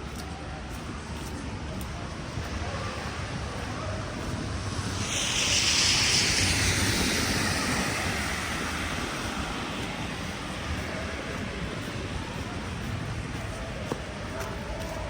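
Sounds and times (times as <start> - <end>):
street ambience: 0.0 - 15.0
vehicle tyre hiss on snow: 2.5 - 15.0.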